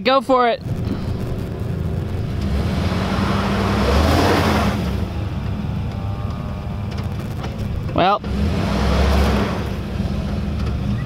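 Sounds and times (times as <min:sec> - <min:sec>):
truck engine under throttle: 0:00.3 - 0:11.0
rush of noise: 0:00.5 - 0:10.1.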